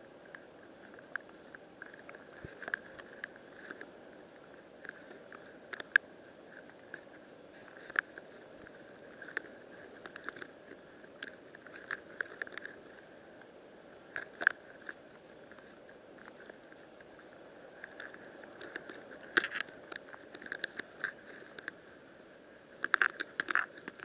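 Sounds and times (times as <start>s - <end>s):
crackling clicks underwater: 0.1s - 22.0s, 22.6s - 24.0s.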